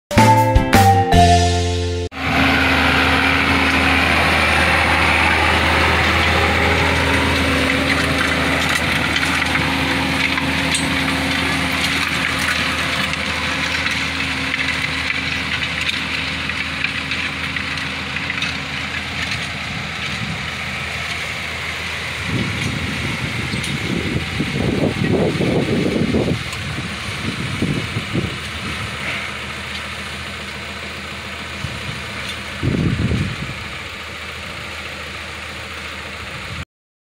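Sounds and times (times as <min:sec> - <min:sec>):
tractor diesel engine under load: 0:00.1 - 0:36.7
discs crunching soil: 0:02.4 - 0:34.7.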